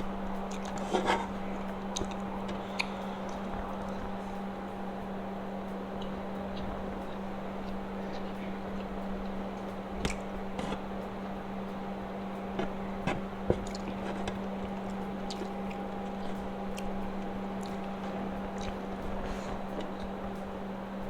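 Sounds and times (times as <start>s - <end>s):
low electrical hum: 0.0s - 21.0s
wet chewing and mouth sounds: 0.0s - 21.0s.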